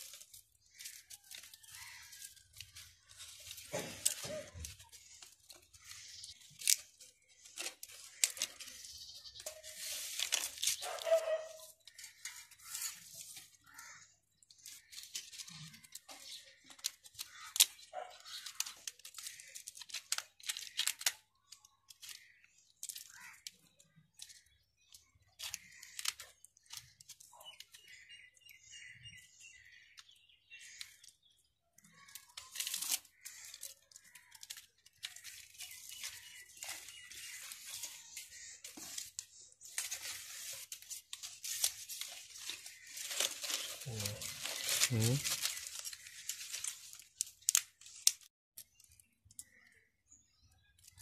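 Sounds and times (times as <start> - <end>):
leaves crackling and rustling: 0.0 - 23.5, 25.3 - 28.0, 32.0 - 49.6
sickle cutting leaves: 0.0 - 28.0, 32.0 - 48.3.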